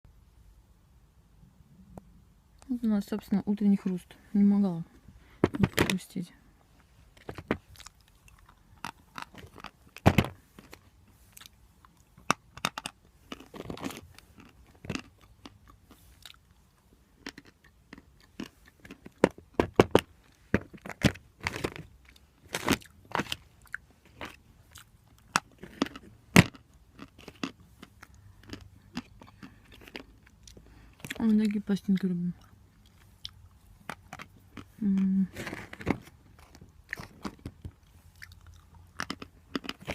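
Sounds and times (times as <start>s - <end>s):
person chewing chalk crunching: 7.3s - 39.9s.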